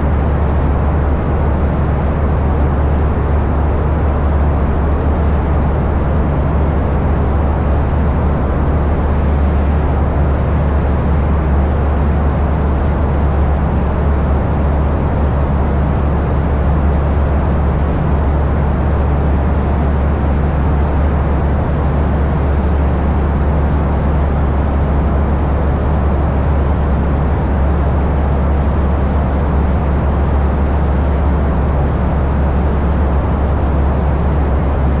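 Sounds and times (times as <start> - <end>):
loud engine drone: 0.0 - 35.0.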